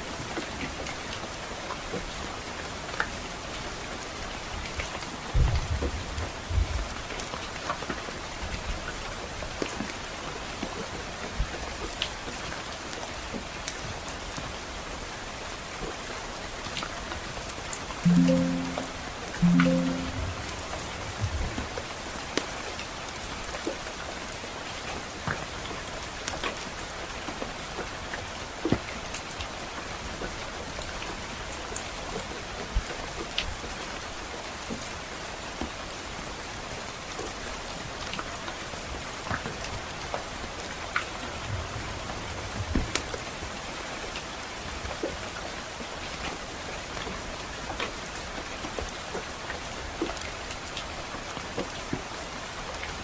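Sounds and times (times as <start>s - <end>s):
soft rain falling: 0.0s - 53.0s.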